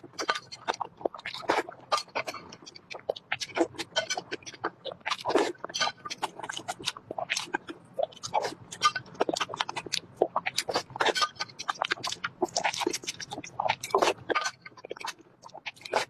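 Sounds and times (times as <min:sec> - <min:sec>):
person chewing and biting eggs: 0:00.1 - 0:16.0.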